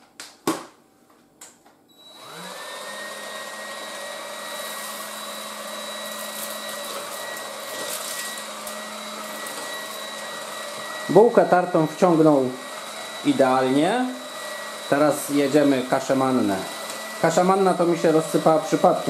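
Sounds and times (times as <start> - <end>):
vacuum motor whining: 1.9 - 19.0.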